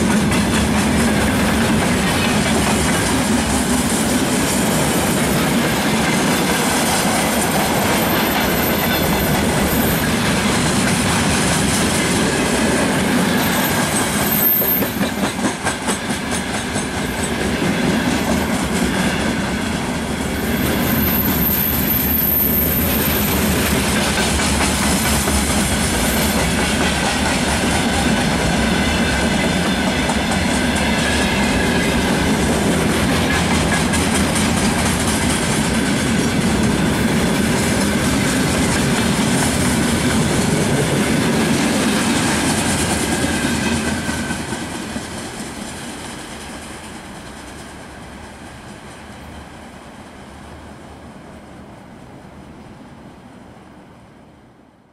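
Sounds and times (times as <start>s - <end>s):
steel wheels on rails: 0.0s - 50.7s
goods train rolling past: 0.0s - 54.8s.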